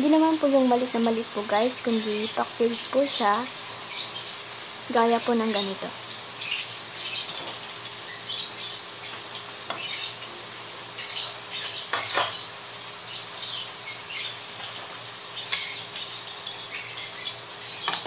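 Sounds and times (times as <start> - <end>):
hot oil sizzling and popping: 0.0 - 18.0.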